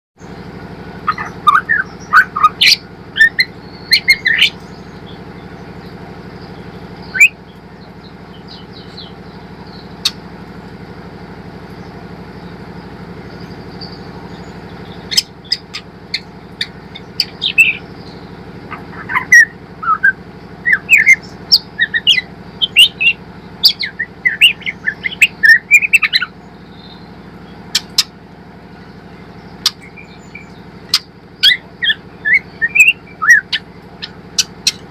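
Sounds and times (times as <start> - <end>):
steady low hum: 0.2 - 34.9
young bird chirping and twittering: 1.0 - 10.2, 11.7 - 34.9.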